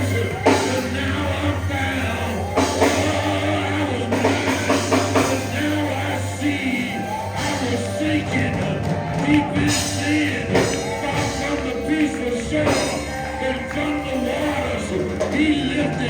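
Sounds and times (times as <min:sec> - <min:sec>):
bass: 0:00.0 - 0:16.0
drums: 0:00.0 - 0:16.0
voices singing: 0:00.0 - 0:16.0.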